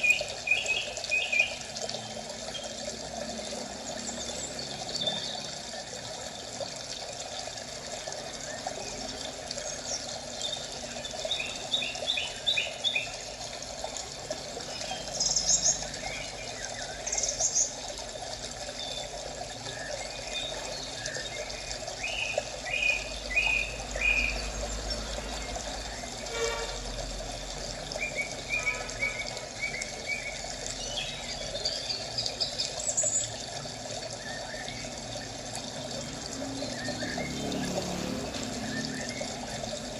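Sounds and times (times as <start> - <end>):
birds chirping: 0.0 - 6.8, 8.2 - 26.8, 27.9 - 39.9
running water hiss: 0.0 - 39.9.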